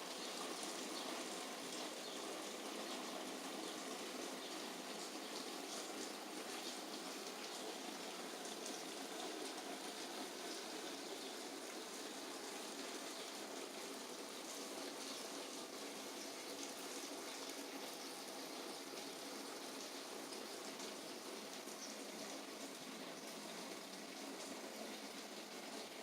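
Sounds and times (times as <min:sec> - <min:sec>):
steady rainfall: 0:00.0 - 0:26.0.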